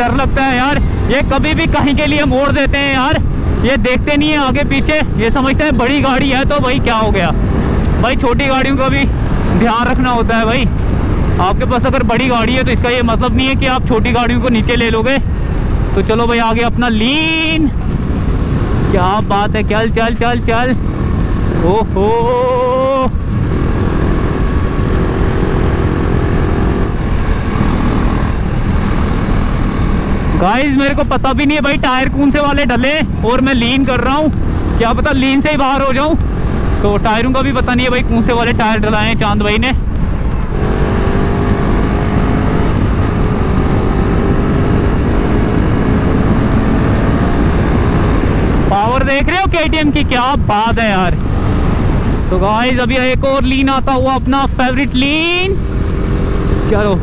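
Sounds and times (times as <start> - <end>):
faint motorcycle engine: 0.0 - 57.0
wind rush on microphone: 0.0 - 57.0.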